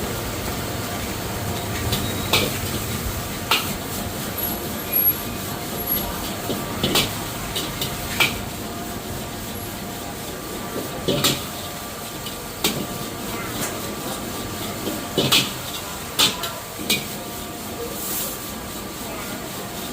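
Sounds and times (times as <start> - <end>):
steady frying hiss: 0.0 - 19.9.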